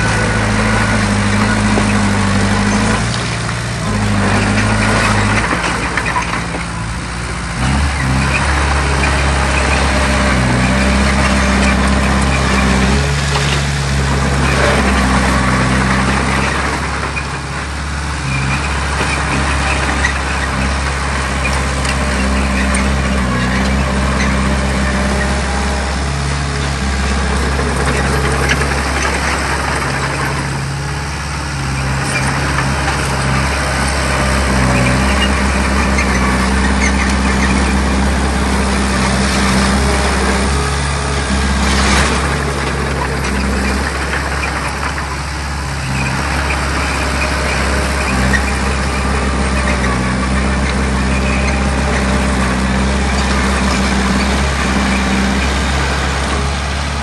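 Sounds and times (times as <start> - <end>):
earthmoving machine diesel engine: 0.0 - 57.0.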